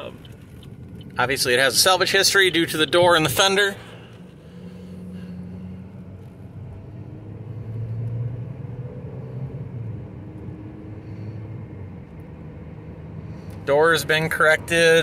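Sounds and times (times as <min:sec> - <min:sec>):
car engine low hum: 0:00.0 - 0:15.0
road and wind noise: 0:00.0 - 0:15.0.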